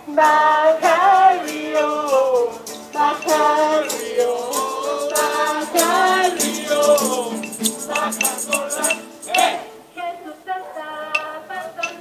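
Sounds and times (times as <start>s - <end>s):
group singing a hymn over loudspeaker: 0.0s - 12.0s
guitar: 0.0s - 12.0s
shaker rattling: 0.1s - 9.6s, 11.1s - 12.0s.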